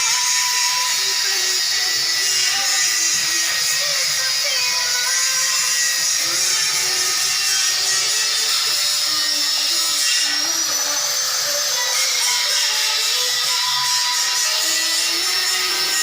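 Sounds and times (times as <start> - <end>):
power tool high-pitched whine: 0.0 - 16.0.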